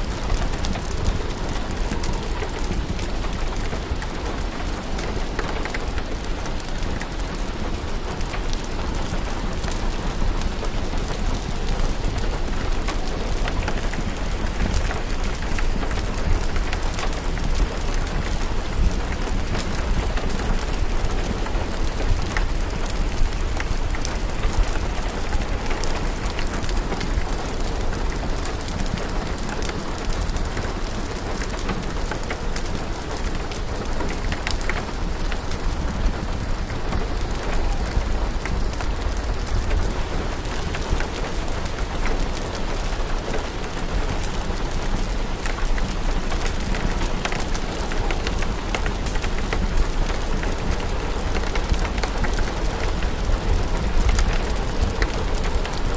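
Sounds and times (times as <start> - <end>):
fireplace fire crackling: 0.0 - 55.9
steady rain: 0.0 - 55.9.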